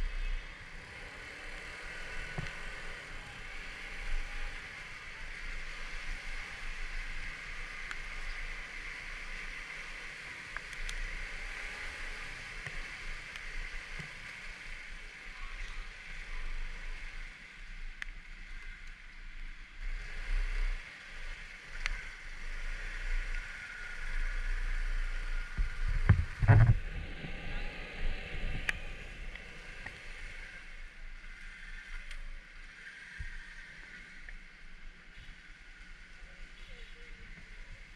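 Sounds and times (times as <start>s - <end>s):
low engine rumble: 0.0s - 37.9s
wind: 0.0s - 37.9s.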